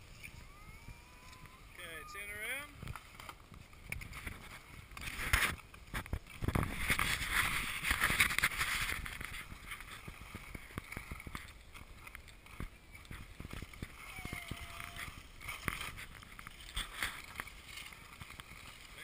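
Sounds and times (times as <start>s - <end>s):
skis scraping over snow: 1.7s - 19.0s.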